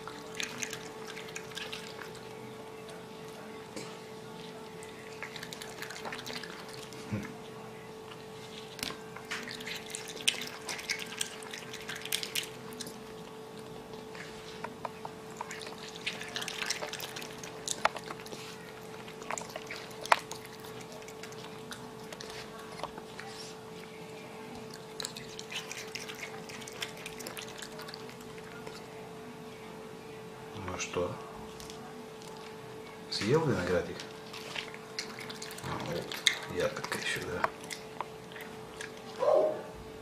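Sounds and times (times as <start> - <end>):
raccoon chewing: 0.0 - 29.5, 30.6 - 39.7
steady hum: 0.0 - 40.0.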